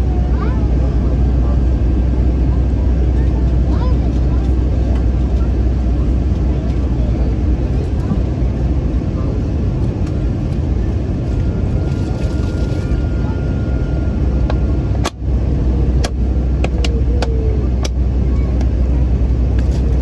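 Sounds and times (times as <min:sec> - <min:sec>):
aircraft cabin engine rumble: 0:00.0 - 0:20.0.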